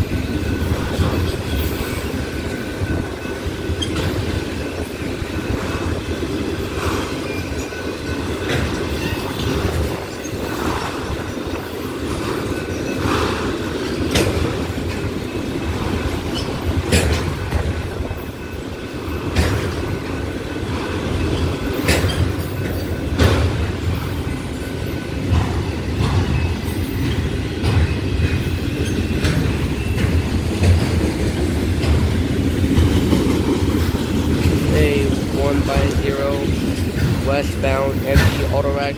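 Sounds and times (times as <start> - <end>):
freight cars clanking: 0.0 - 38.9
wheels rumbling on rail: 0.0 - 38.9.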